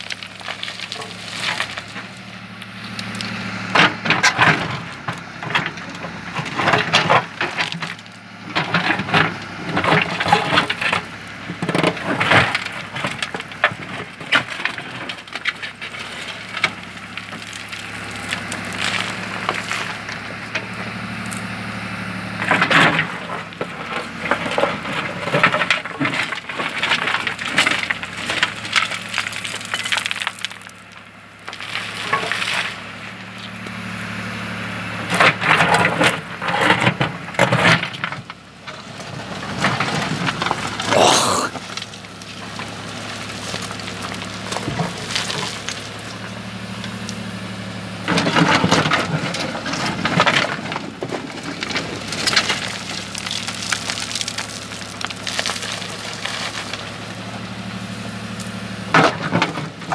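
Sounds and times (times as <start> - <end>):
steel bucket scraping rocks: 0.0 - 59.9
tractor engine running: 0.0 - 59.9.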